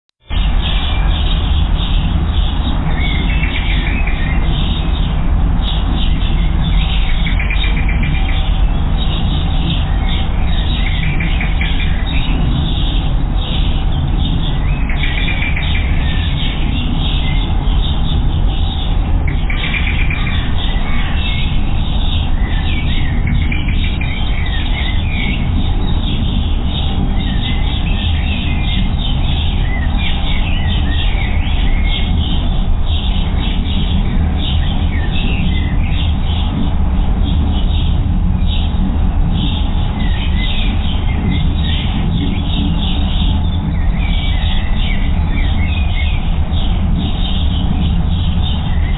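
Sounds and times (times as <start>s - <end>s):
low rumble: 0.2s - 48.9s
songbirds chirping: 0.2s - 48.9s.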